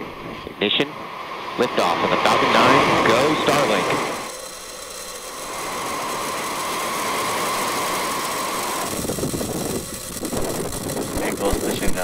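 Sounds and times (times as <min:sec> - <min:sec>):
rocket engines roaring: 0:00.0 - 0:12.0.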